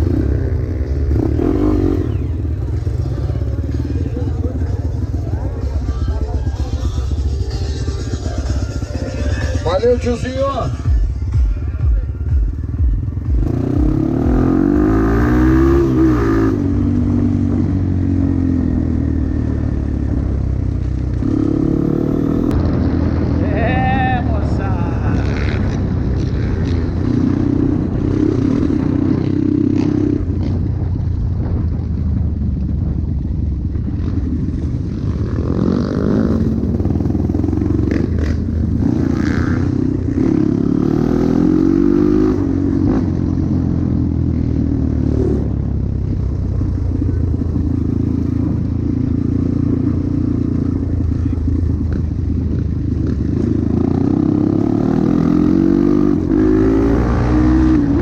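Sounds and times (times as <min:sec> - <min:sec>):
motorcycle engine revving: 0:00.0 - 0:23.5, 0:24.4 - 0:58.0.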